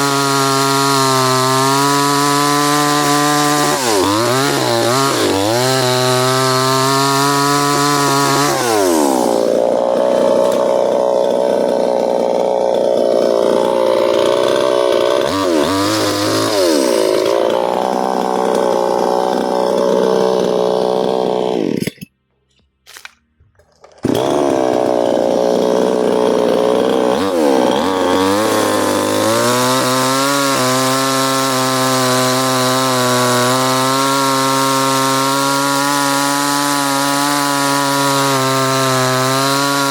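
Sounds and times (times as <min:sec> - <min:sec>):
chainsaw at high revs: 0:00.0 - 0:22.0, 0:23.8 - 0:39.9.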